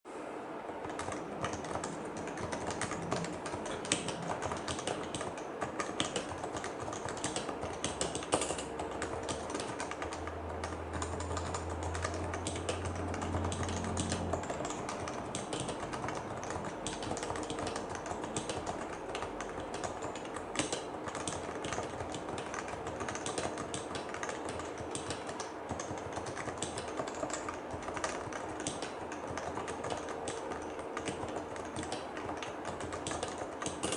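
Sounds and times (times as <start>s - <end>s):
keyboard typing: 0.7s - 33.9s.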